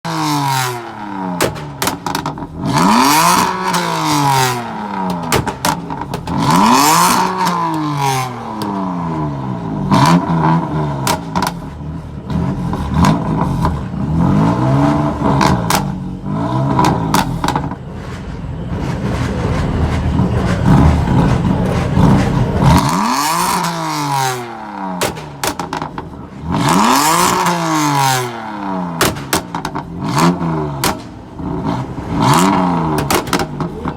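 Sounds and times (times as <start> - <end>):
car engine revving: 0.1 - 33.9
exhaust pops and crackles: 0.5 - 9.2, 9.8 - 14.1, 15.1 - 28.2, 28.8 - 33.9.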